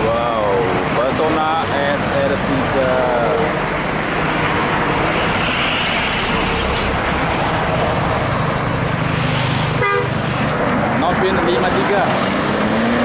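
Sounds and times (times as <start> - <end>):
bus engine approaching: 0.0 - 13.0.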